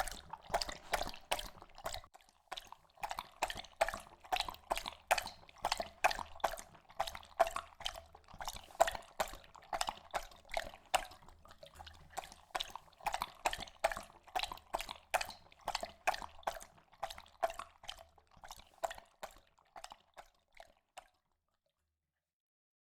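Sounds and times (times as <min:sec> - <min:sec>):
dog lapping water: 0:00.0 - 0:21.3.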